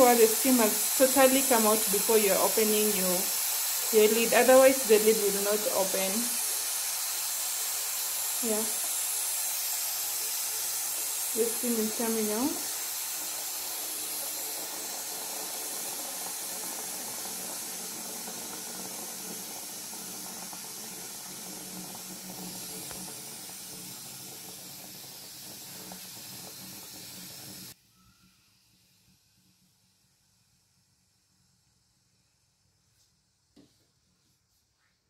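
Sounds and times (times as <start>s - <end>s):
steam hissing from pressure cooker: 0.0s - 31.5s.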